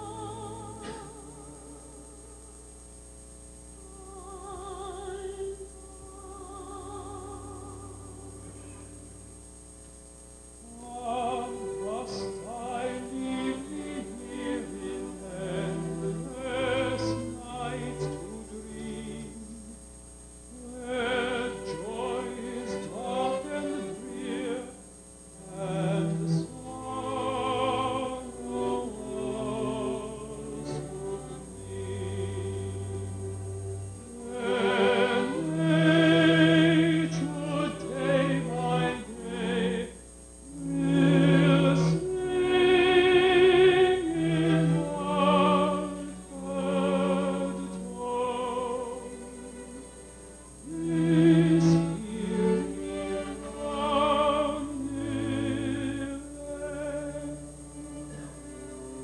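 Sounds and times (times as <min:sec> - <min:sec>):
man and woman singing duet: 0:00.0 - 0:02.6, 0:10.6 - 0:19.8, 0:20.5 - 0:24.8, 0:25.4 - 0:50.0, 0:50.6 - 0:59.0.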